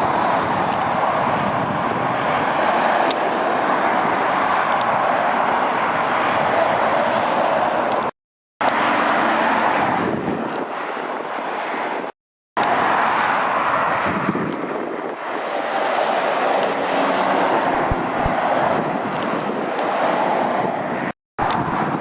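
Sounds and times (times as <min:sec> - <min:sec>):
wind on microphone: 0:00.0 - 0:08.1, 0:09.6 - 0:22.0
traffic passing at speed: 0:00.0 - 0:22.0.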